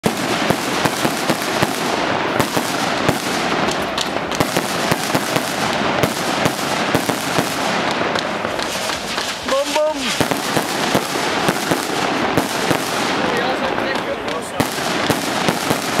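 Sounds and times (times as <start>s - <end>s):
fireworks shots and bursts: 0.0s - 16.0s.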